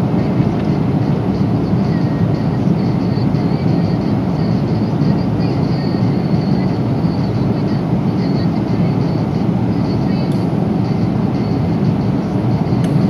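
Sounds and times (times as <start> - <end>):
airliner cabin roar: 0.0 - 13.0.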